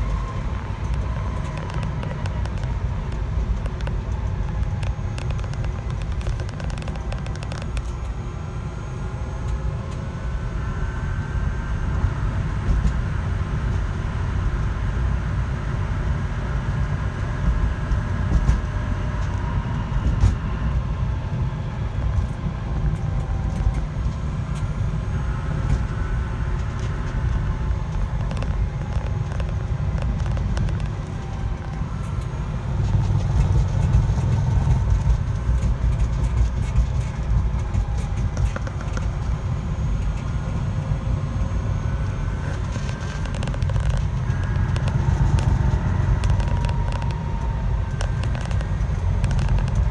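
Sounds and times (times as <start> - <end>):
vehicle engine rumbling: 0.0 - 49.9.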